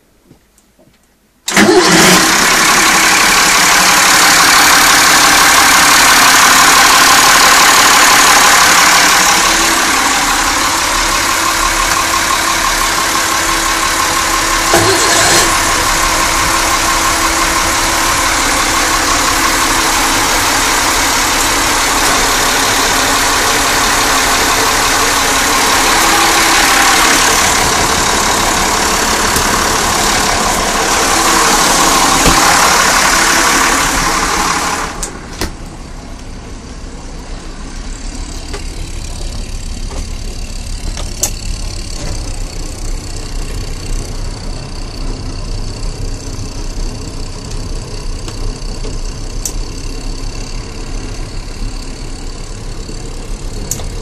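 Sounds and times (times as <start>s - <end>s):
diesel marine engines running: 1.5s - 54.0s.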